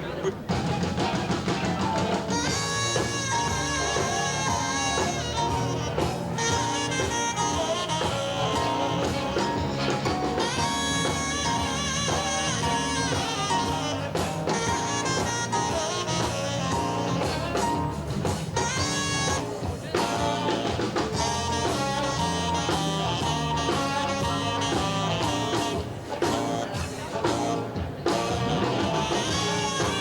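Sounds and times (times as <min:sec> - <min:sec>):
band playing music: 0:00.0 - 0:30.0.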